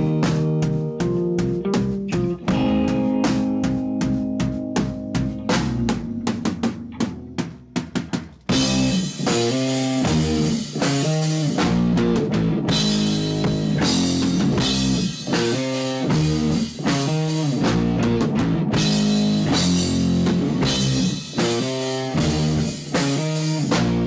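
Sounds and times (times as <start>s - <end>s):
drum kit beat: 0.0s - 24.0s
electric guitars: 0.0s - 24.0s.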